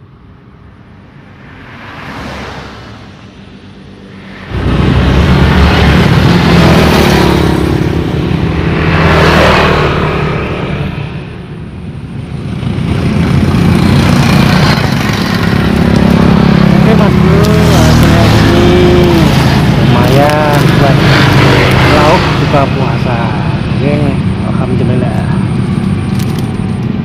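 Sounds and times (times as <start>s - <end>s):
vehicles passing on road: 0.0s - 27.0s.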